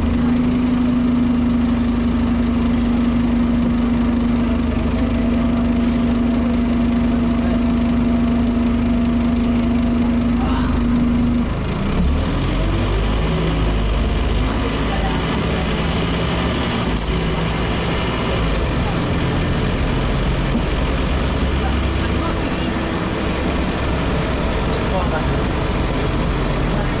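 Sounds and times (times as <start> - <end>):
bus diesel engine droning: 0.0 - 27.0.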